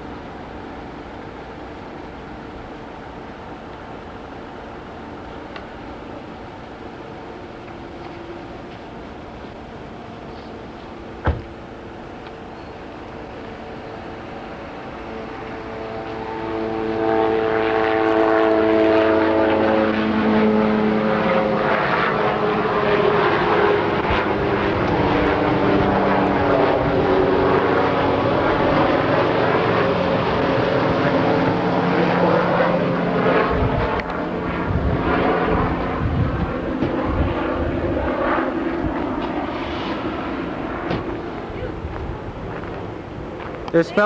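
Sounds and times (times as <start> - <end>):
aircraft engine drone passing: 0.0 - 44.0.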